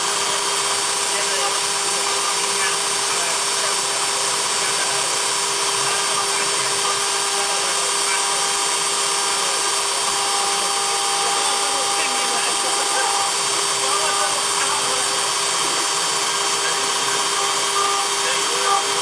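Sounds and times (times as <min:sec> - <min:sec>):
bit grinding stone: 0:00.0 - 0:19.0
spindle whine: 0:00.0 - 0:19.0.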